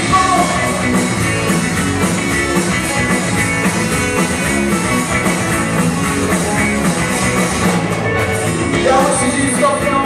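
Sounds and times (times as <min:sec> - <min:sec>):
driving drum beat: 0:00.0 - 0:10.0
electric guitar: 0:00.0 - 0:10.0.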